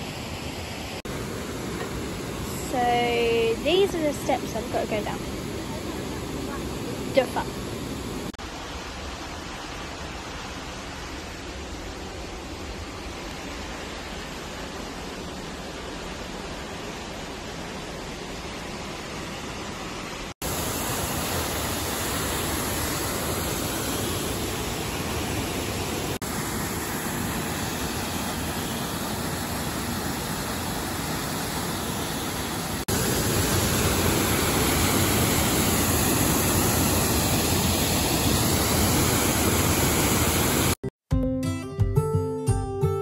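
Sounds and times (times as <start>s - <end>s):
waterfall rushing: 0.0s - 40.8s.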